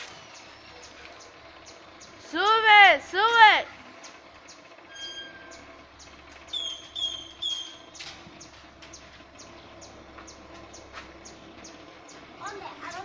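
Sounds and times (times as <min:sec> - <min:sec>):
bird chirping: 0:00.0 - 0:02.4, 0:04.0 - 0:12.4.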